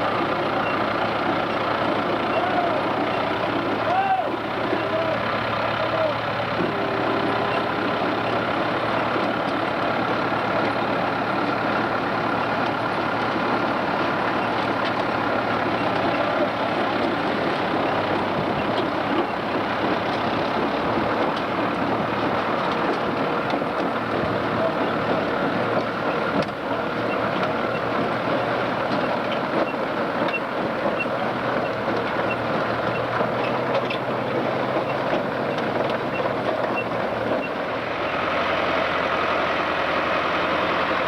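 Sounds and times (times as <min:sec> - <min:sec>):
tractor and harvester machinery noise: 0:00.0 - 0:41.0.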